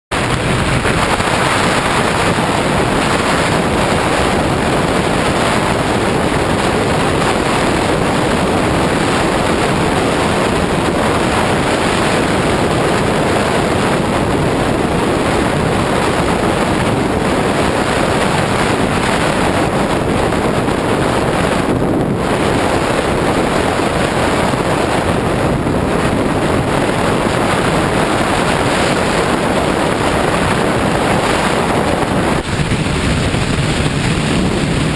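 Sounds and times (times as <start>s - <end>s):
motorcycle running: 0.1s - 34.9s
wind rush on microphone: 0.1s - 34.9s.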